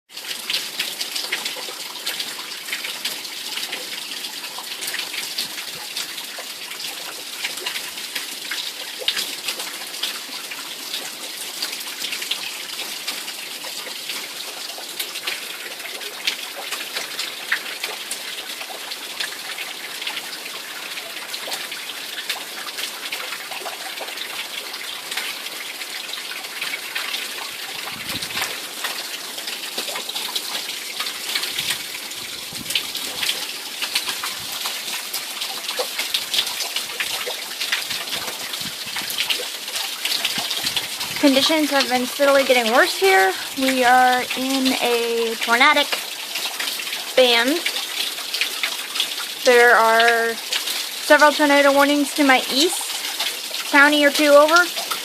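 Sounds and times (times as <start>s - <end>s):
heavy rain pouring: 0.1s - 55.0s
water gushing: 0.1s - 55.0s.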